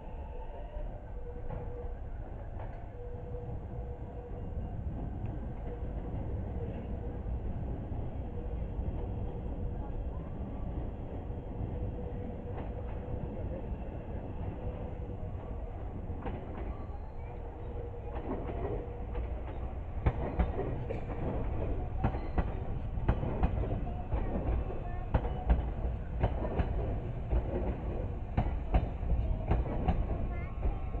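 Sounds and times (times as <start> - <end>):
train low rumble: 0.0 - 31.0.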